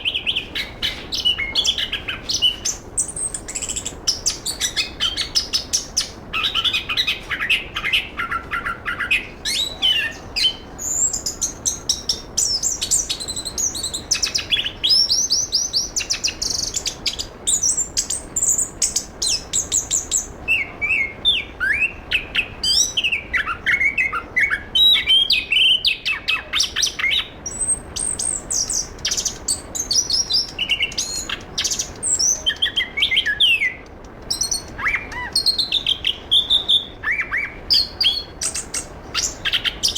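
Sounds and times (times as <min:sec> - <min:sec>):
thrush singing trills and whistles: 0:00.0 - 0:39.9.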